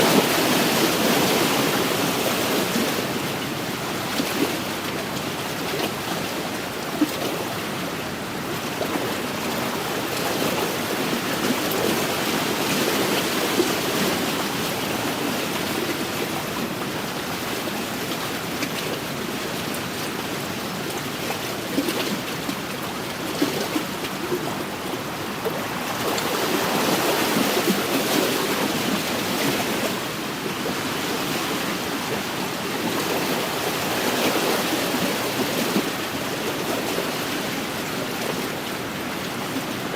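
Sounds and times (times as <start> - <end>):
waves lapping against shore: 0.0 - 39.9.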